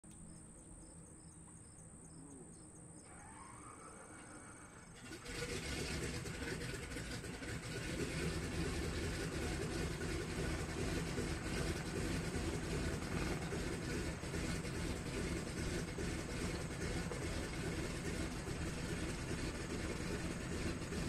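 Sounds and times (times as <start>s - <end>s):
radial aircraft engine starting and idling: 0.1s - 21.0s.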